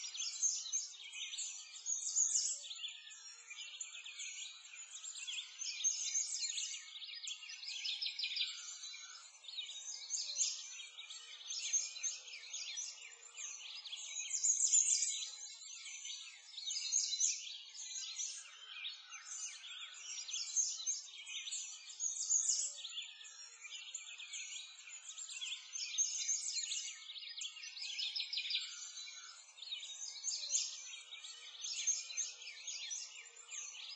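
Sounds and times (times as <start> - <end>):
small birds chirping and twittering: 0.0 - 33.9.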